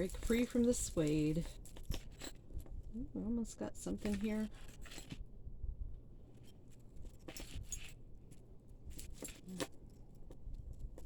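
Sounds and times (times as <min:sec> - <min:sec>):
jewelry clinking: 0:00.0 - 0:03.2, 0:03.8 - 0:05.3, 0:06.3 - 0:11.0.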